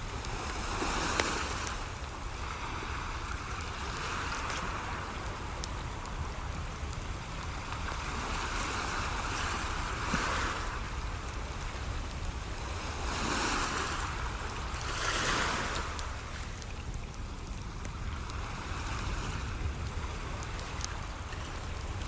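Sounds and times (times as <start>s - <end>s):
ocean waves washing onto shore: 0.0s - 22.0s
wood fire crackling: 0.0s - 22.0s.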